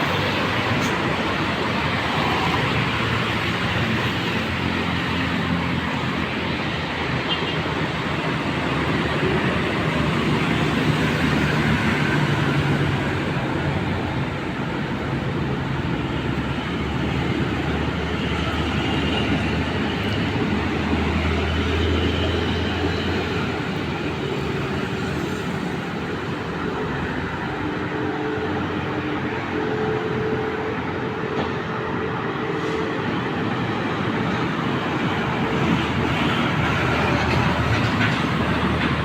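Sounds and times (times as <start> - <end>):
road traffic passing: 0.0 - 39.0.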